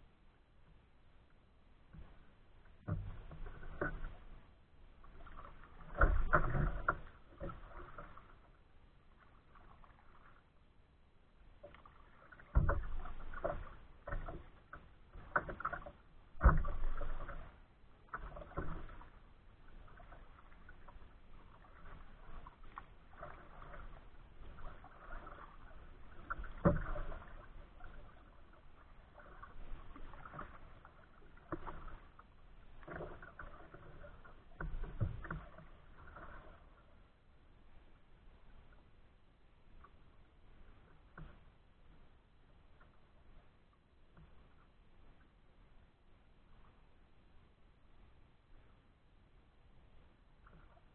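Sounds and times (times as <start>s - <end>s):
water lapping against hull: 0.7s - 50.9s
waves slapping against bow: 1.8s - 10.6s, 11.4s - 38.8s, 39.6s - 45.4s, 50.3s - 50.9s.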